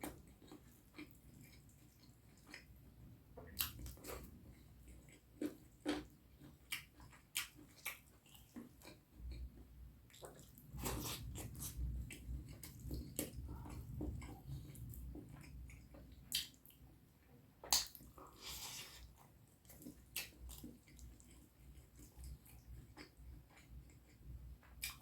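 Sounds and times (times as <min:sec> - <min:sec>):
person chewing food: 0:00.0 - 0:17.0, 0:17.6 - 0:25.0.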